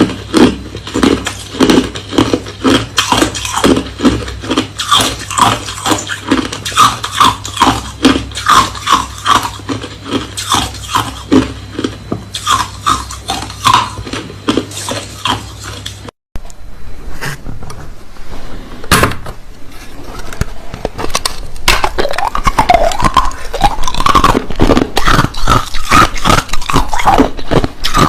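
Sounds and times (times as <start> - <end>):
ice crunched between teeth: 0.0 - 16.0, 21.2 - 28.0.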